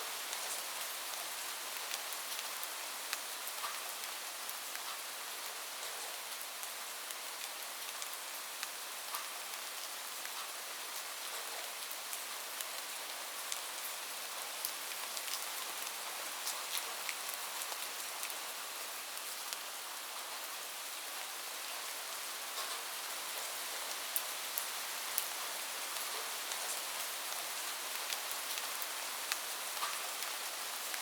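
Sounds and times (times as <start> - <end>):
rain falling on a roof: 0.0 - 31.0.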